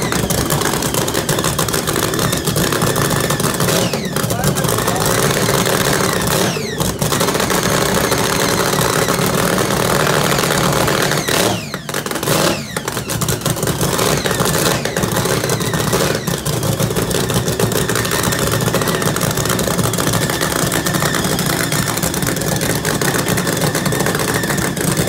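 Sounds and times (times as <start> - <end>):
boat engine idling with choppy lope: 0.0 - 25.0.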